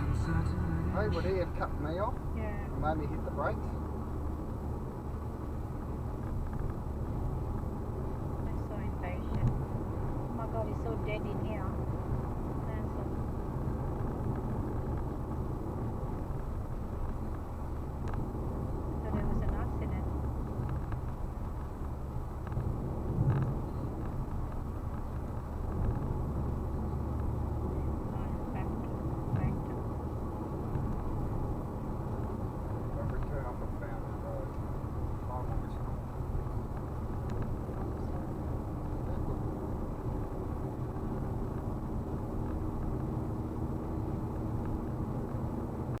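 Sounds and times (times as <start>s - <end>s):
road and engine rumble: 0.0s - 46.0s.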